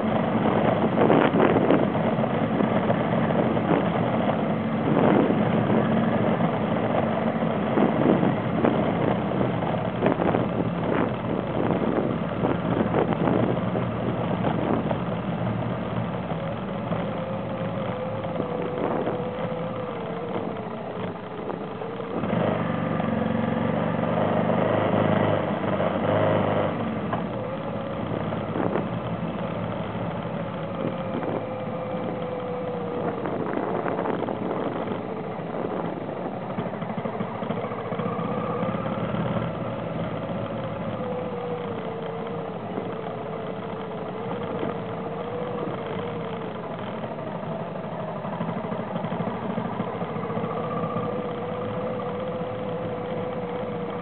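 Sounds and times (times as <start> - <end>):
knocks and rattles from bumpy road: 0.0 - 54.0
vehicle engine running: 0.0 - 54.0.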